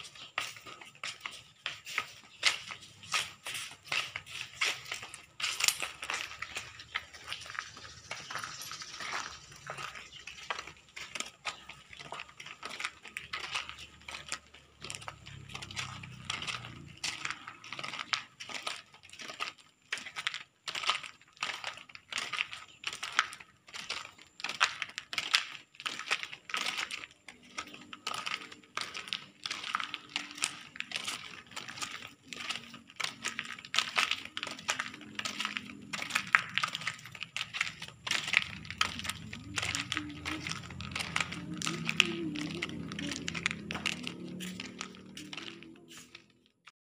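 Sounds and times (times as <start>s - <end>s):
footsteps crunching on debris: 0.0s - 46.7s.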